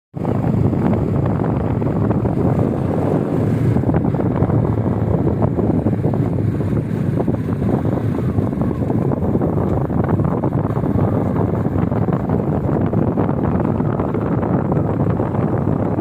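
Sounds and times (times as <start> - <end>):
wind buffeting microphone: 0.2 - 16.0.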